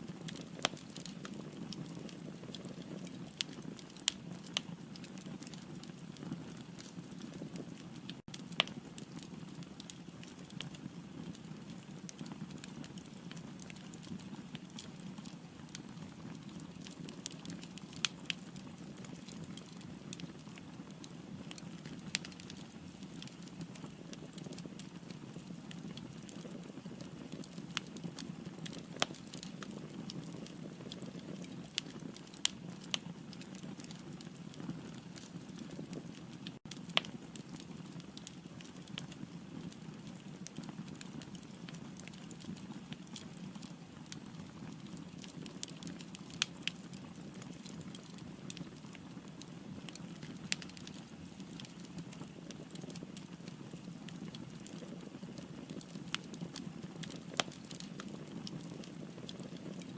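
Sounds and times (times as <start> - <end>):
firewood crackling and popping: 0.0 - 59.9
low rumble of flames: 0.0 - 59.9.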